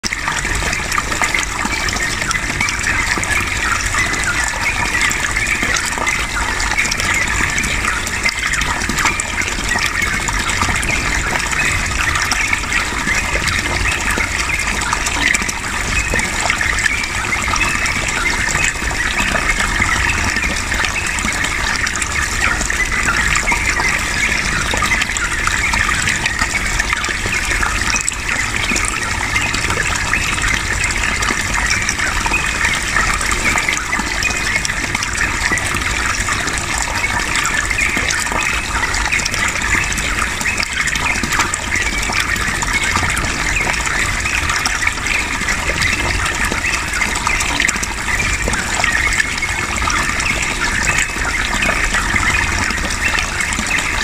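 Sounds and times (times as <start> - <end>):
water gushing: 0.0 - 54.0.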